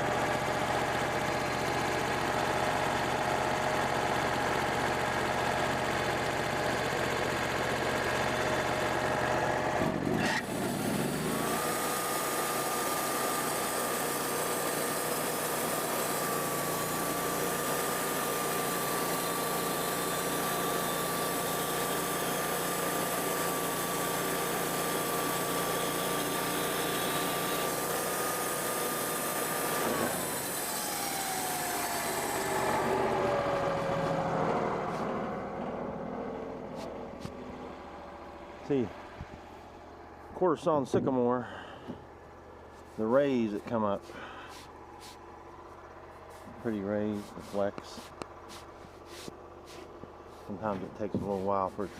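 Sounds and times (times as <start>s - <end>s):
sawmill engine revving: 0.0s - 39.9s, 42.0s - 51.9s.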